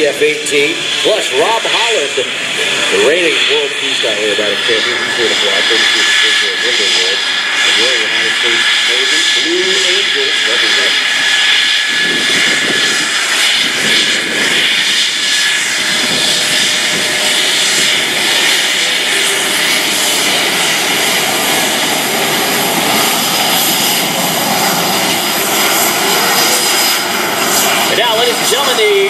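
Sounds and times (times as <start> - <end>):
jet engine rushing and whistling: 0.0 - 29.0.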